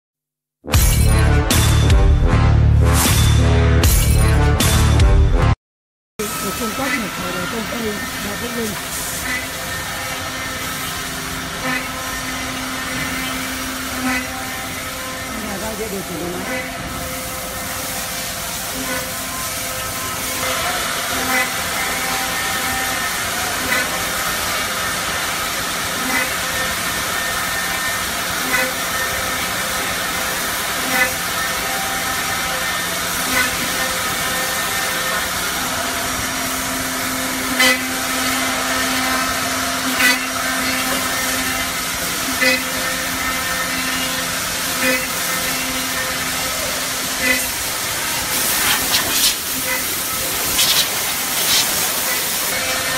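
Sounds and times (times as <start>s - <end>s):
mortising machine running: 6.2s - 52.9s.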